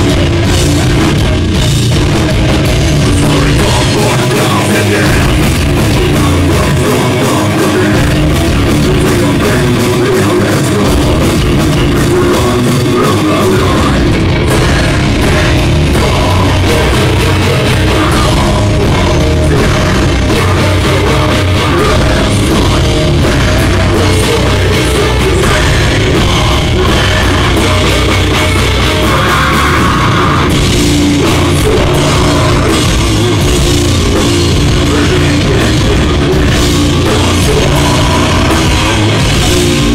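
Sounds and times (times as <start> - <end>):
bass guitar: 0.0 - 39.9
distorted electric guitar: 0.0 - 39.9
drum kit: 0.0 - 39.9.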